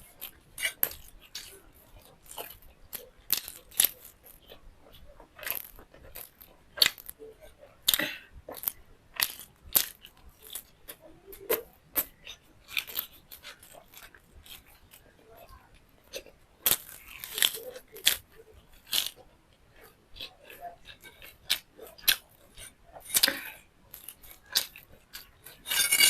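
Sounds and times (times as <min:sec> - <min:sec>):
crunching and wet chewing: 0:00.0 - 0:26.0.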